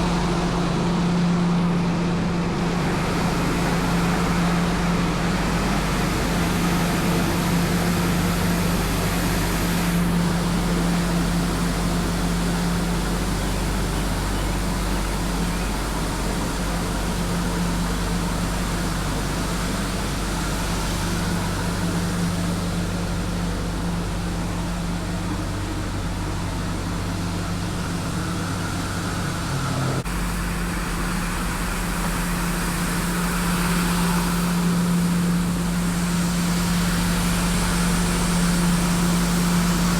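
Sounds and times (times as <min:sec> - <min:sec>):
street sweeper engine and blower hum: 0:00.0 - 0:39.9.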